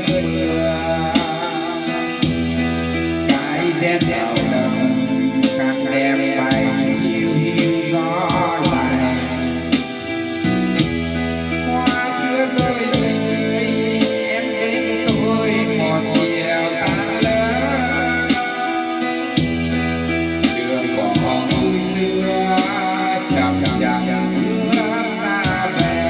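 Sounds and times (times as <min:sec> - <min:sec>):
person singing: 0:00.0 - 0:26.0
steady beat and bass: 0:00.0 - 0:26.0.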